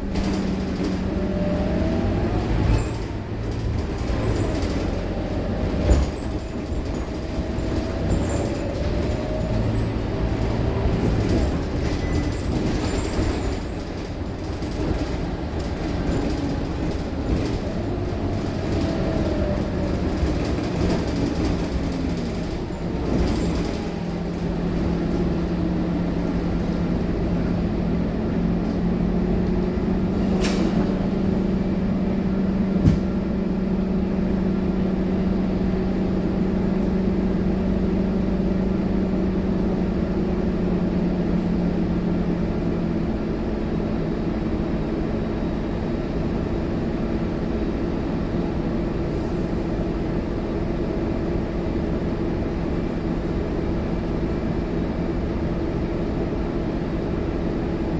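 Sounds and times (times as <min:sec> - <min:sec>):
bus diesel engine droning: 0:00.0 - 0:57.9.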